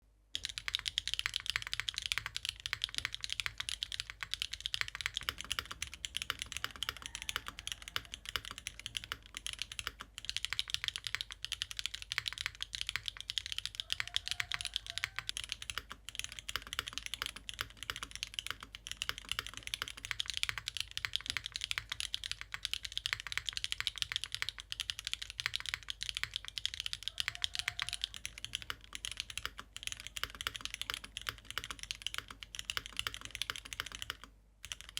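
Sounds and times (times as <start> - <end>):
mechanical keyboard typing: 0.4 - 34.9.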